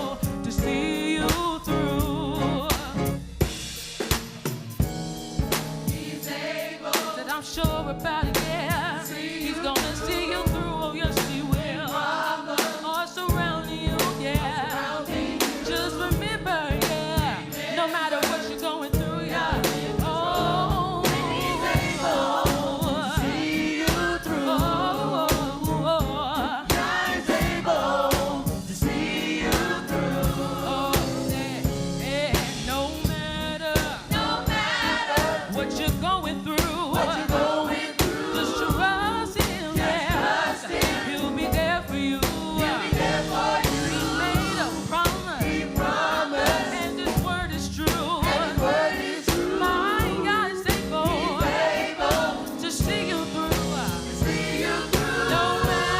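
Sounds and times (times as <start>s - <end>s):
gospel choir singing with band: 0.0s - 55.9s.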